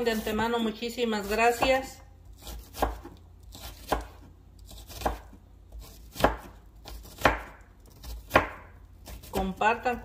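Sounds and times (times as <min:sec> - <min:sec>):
knife chopping on wooden board: 0:01.2 - 0:09.6.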